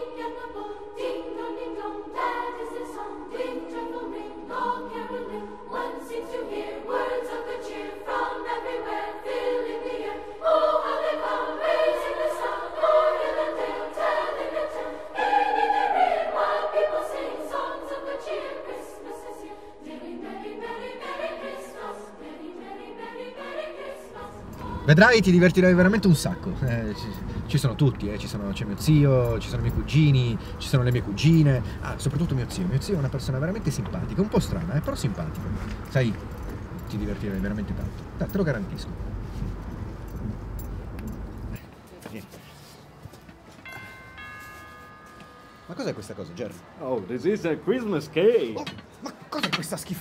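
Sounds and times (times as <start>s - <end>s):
choir singing held chords: 0.0s - 41.3s.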